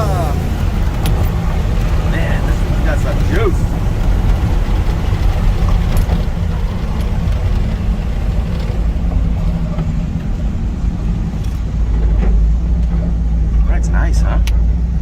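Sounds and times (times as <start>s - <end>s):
road noise: 0.0s - 15.0s
truck engine low rumble: 0.0s - 15.0s.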